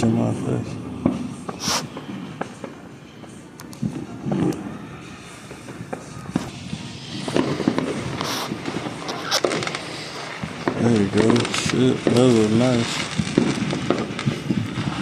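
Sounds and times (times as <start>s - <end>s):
distant fireworks bangs and pops: 0.0s - 15.0s
fireworks crackling: 0.0s - 15.0s.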